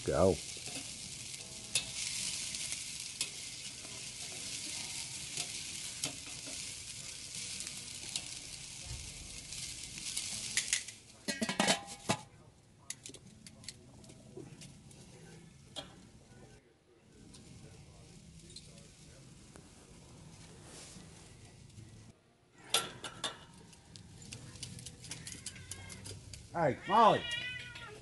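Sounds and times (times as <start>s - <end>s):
chicken wings sizzling on grill: 0.0s - 28.0s.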